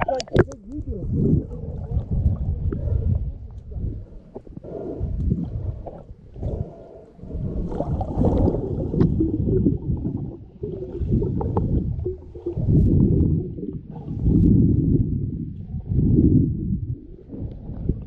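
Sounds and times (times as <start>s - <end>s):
underwater rumbling of water: 0.0s - 18.0s
water gurgling: 0.0s - 18.0s.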